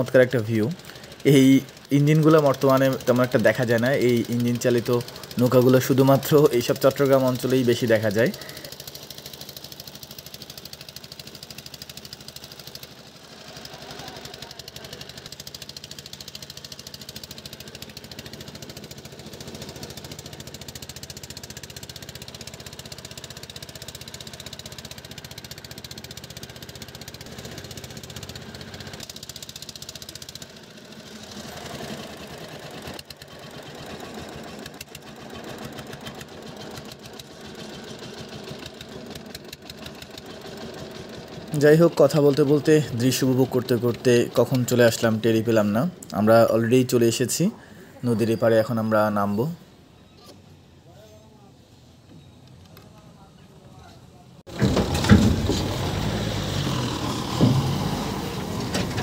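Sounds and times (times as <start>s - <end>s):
boat engine chugging: 0.0s - 49.4s.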